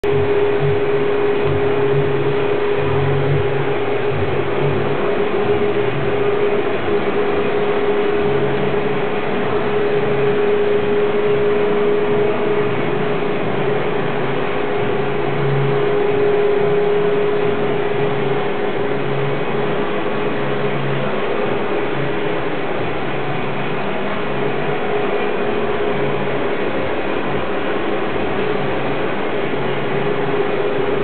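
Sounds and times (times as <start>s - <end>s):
ventilation fan whirring: 0.0s - 31.0s.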